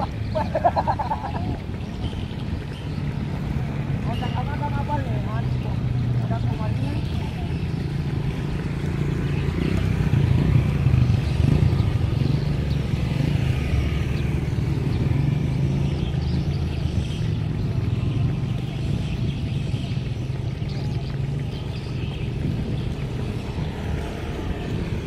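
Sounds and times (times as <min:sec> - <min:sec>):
engine running at low revs: 0:04.7 - 0:25.0.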